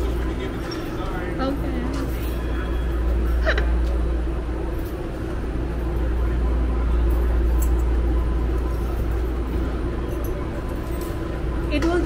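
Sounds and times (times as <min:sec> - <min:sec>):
station background rumble: 0:00.0 - 0:12.0.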